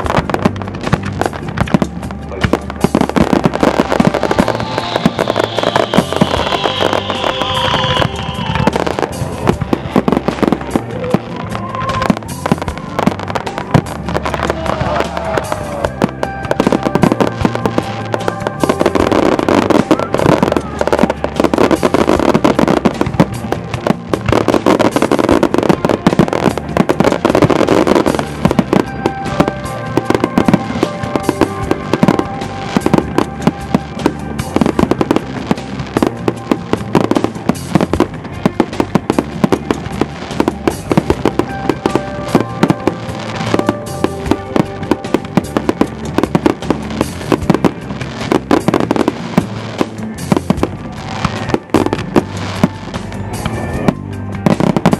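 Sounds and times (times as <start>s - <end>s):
firework bursts and crackling: 0.0s - 54.9s
music playing: 0.0s - 54.9s.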